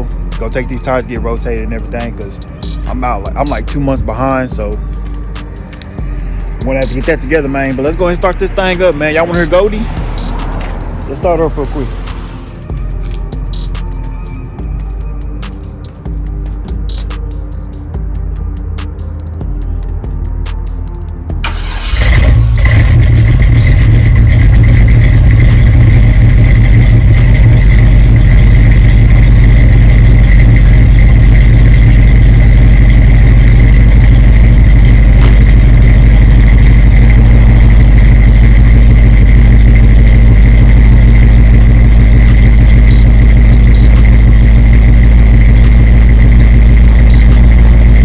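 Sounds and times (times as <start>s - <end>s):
car engine starting and idling: 0.0s - 48.0s.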